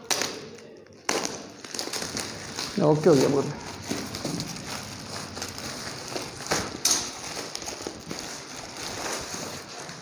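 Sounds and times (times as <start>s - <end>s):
plastic bag rustling and crinkling: 1.0s - 10.0s.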